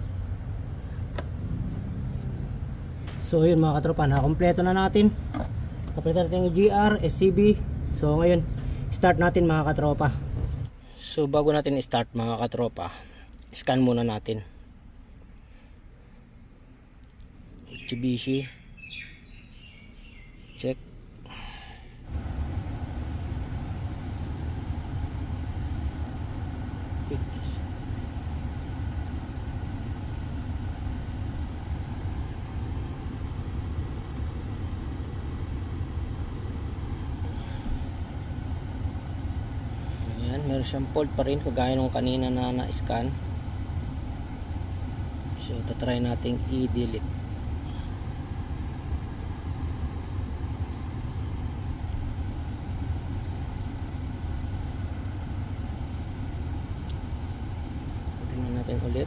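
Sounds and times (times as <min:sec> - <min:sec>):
engine idling: 0:00.0 - 0:11.2, 0:21.0 - 0:59.0
steady low rumble: 0:00.0 - 0:59.0.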